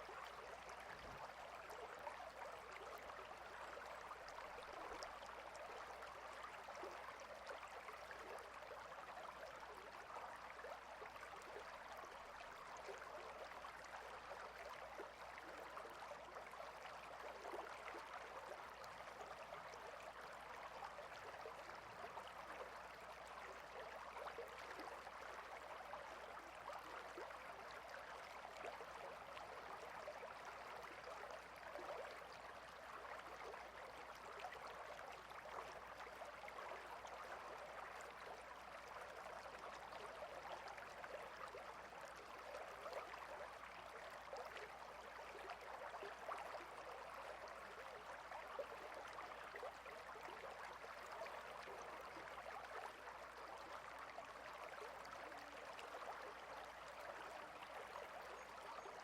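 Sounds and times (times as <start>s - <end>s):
stream flowing and gurgling: 0.0s - 59.0s.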